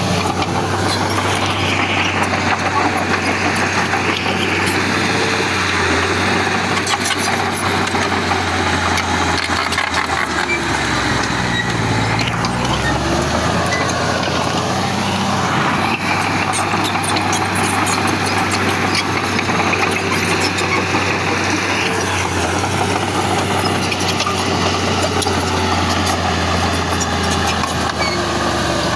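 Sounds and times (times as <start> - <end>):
heavy diesel machinery running: 0.0 - 28.9.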